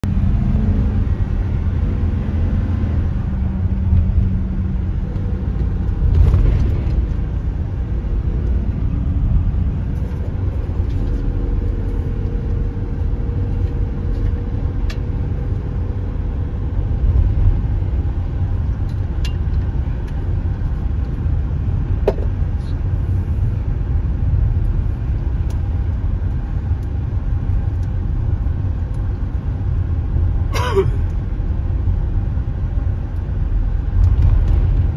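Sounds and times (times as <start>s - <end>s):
truck engine rumble: 0.0s - 34.9s
tyres on road: 0.0s - 34.9s.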